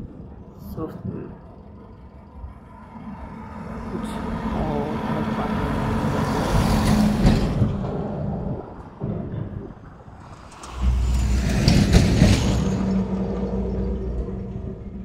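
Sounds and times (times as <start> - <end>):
vehicle passing on highway: 1.4 - 15.0.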